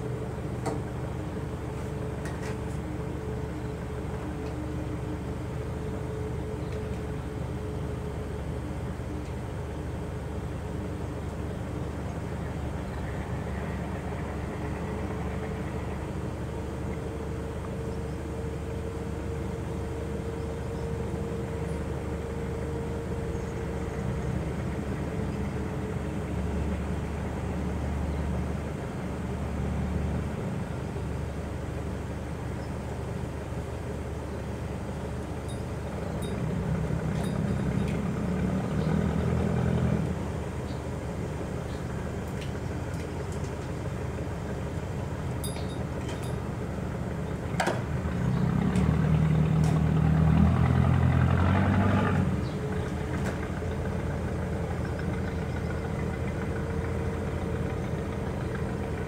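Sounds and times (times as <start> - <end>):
low traffic rumble: 0.0 - 59.0.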